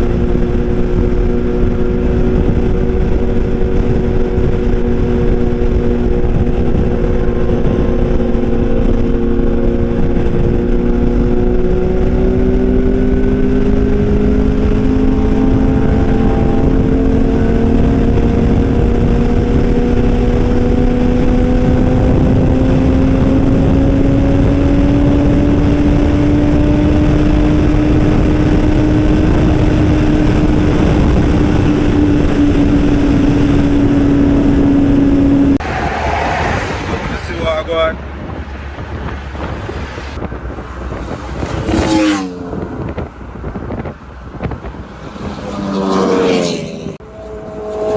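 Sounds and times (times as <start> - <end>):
motorbike engine running hard: 0.0 - 35.6, 38.2 - 47.9
rushing wind noise: 0.0 - 47.9.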